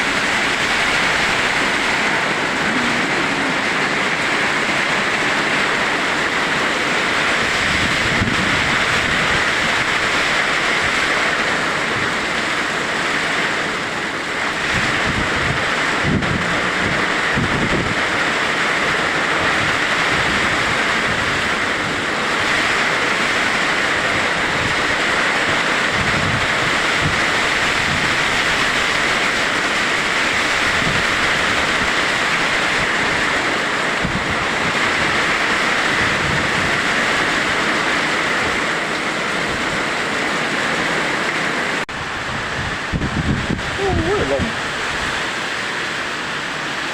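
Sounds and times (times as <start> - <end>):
heavy rain pouring: 0.0 - 46.9
wind buffeting microphone: 0.0 - 46.9.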